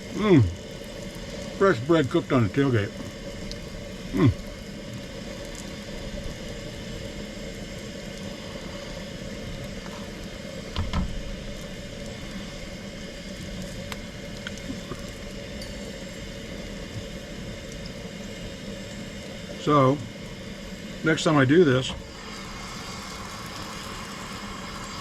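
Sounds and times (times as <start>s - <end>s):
dough sizzling in hot grease: 0.0s - 25.0s.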